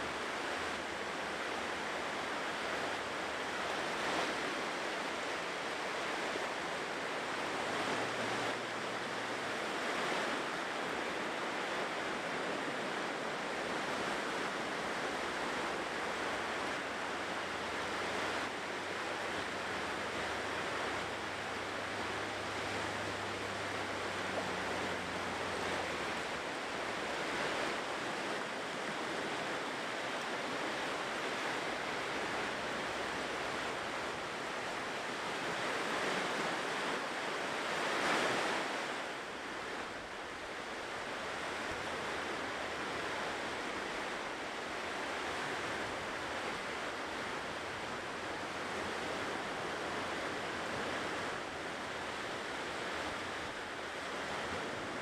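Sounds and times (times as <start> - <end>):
ocean surf washing on shore: 0.0 - 55.0.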